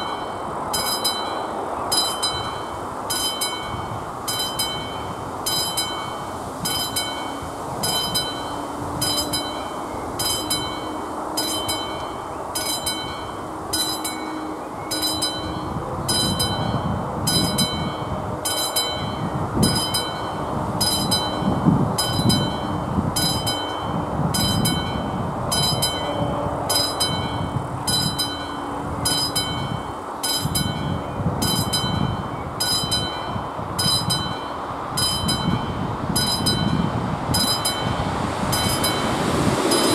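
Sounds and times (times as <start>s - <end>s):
electric warning bell ringing: 0.0s - 39.9s
low rumbling noise: 0.0s - 39.9s.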